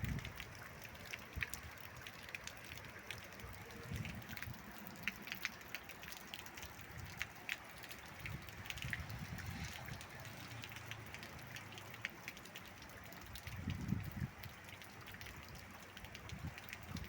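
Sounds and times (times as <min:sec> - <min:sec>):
rain hiss: 0:00.0 - 0:17.0
drops ticking on a surface: 0:00.1 - 0:17.0.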